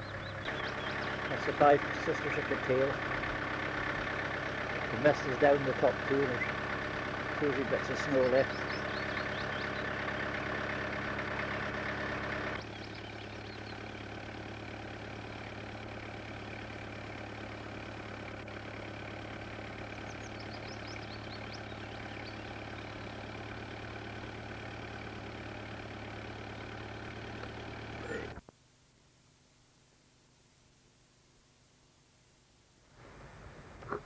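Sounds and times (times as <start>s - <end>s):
engine idling: 0.0s - 28.4s, 32.9s - 34.0s.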